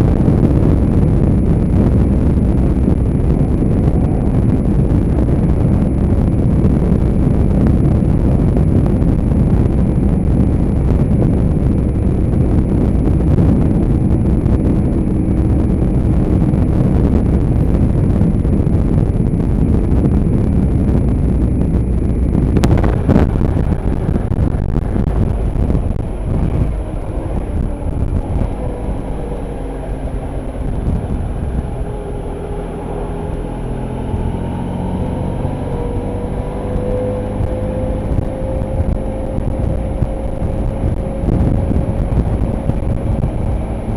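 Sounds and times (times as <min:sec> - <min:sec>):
motorcycle engine accelerating: 0:00.0 - 0:43.9
wind rushing: 0:00.0 - 0:43.9.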